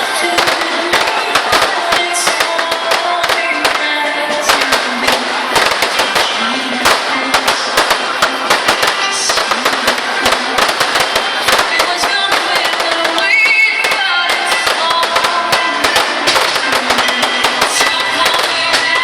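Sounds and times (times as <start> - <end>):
fireworks crackling and banging: 0.0 - 19.0
music playing: 0.0 - 19.0.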